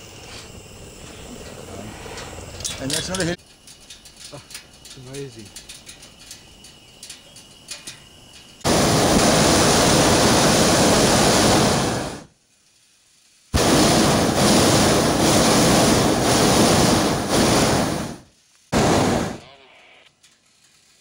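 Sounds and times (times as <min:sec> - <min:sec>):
propane burner roaring: 0:00.0 - 0:12.5, 0:13.2 - 0:19.4.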